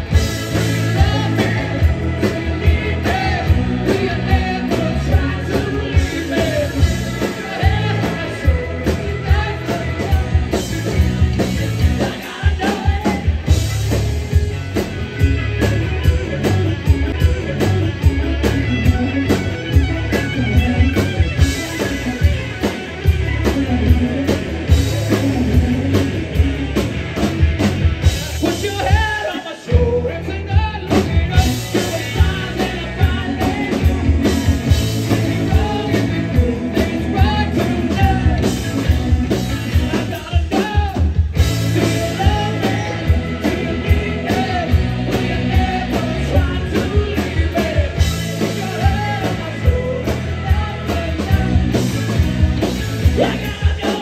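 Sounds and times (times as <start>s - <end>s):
lead vocal singing: 0.0s - 13.9s, 23.4s - 27.0s, 28.0s - 54.0s
drum kit: 0.0s - 54.0s
electric guitars: 0.0s - 54.0s.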